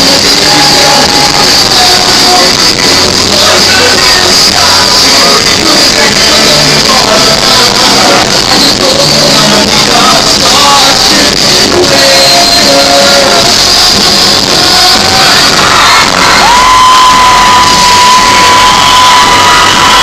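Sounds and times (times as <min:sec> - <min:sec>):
live rock band with singing: 0:00.0 - 0:20.0.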